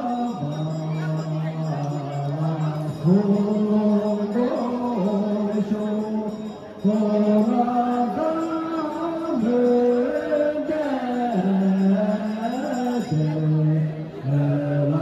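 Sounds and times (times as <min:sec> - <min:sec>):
slow chant-like singing: 0:00.0 - 0:15.0.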